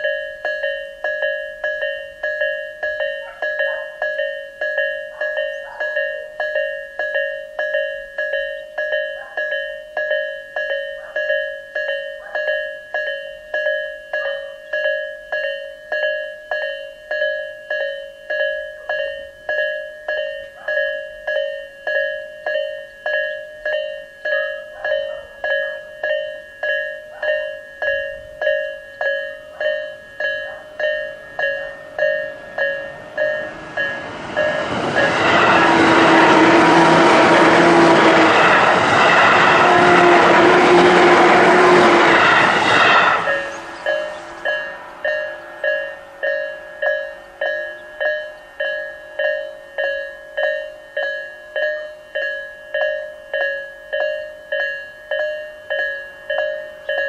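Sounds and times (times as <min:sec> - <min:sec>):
level-crossing warning bell: 0:00.0 - 0:57.0
train passing on rails: 0:00.0 - 0:57.0.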